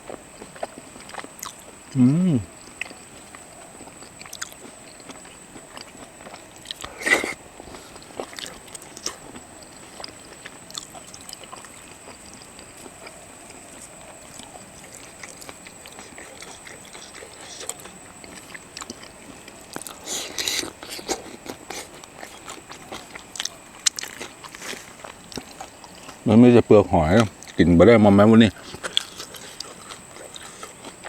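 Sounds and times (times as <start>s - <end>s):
person chewing and biting: 0.1s - 26.2s, 28.5s - 31.0s.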